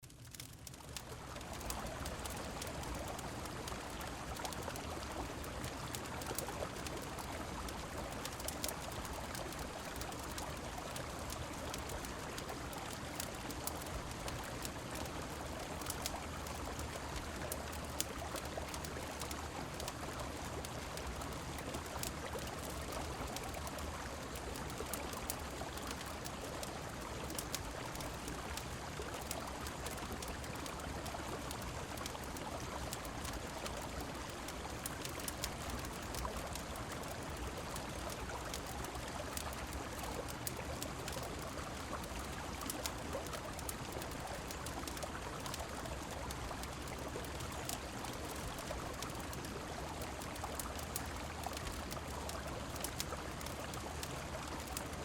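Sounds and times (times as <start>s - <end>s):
falling rain: 0.0s - 55.0s
wood fire crackling and popping: 0.1s - 55.0s.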